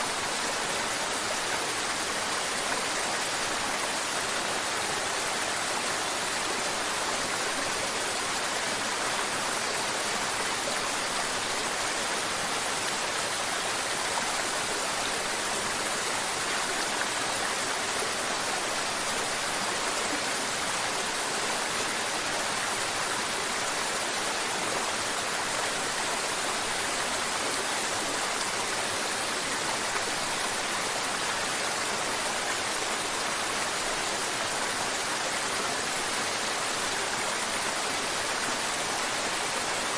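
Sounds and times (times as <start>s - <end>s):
river water babbling over rocks: 0.0s - 39.9s.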